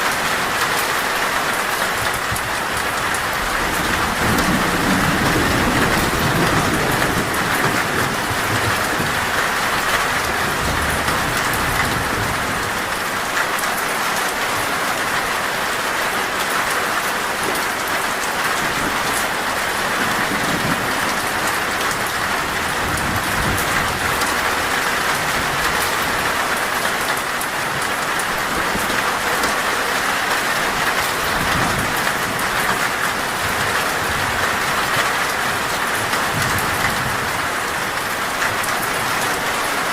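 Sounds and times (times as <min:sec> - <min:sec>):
heavy rain on a metal roof: 0:00.0 - 0:39.9
thunder rumbling: 0:02.0 - 0:13.2, 0:18.5 - 0:39.9.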